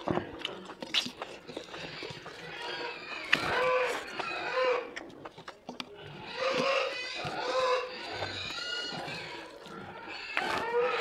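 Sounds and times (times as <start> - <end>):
pigs squealing: 1.3 - 5.1, 6.0 - 11.0.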